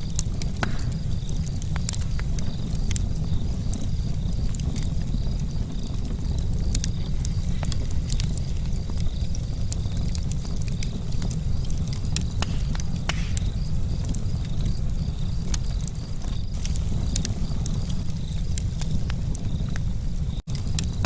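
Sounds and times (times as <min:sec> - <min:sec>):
campfire crackling and popping: 0:00.0 - 0:21.0
fire low rumble: 0:00.0 - 0:21.0.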